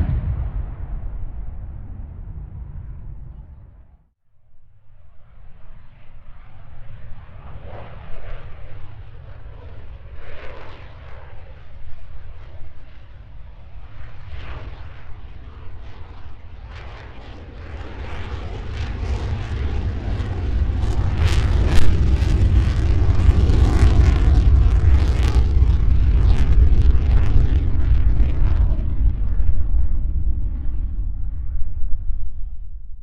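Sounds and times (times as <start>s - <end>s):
fighter jet flying by: 5.4s - 32.6s.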